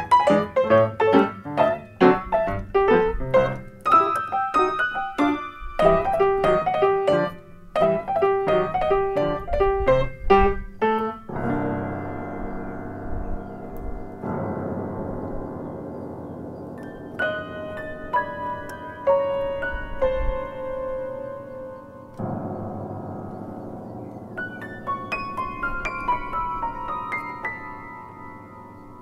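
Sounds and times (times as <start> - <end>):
ragtime piano: 0.0 - 29.0.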